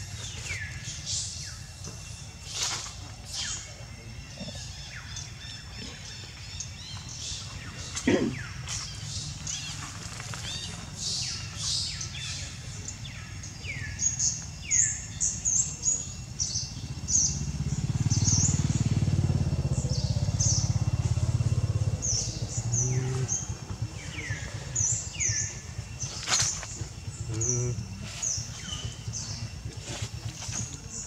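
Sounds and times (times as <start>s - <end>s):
birds chirping: 0.0s - 31.0s
passing engine hum: 0.8s - 31.0s.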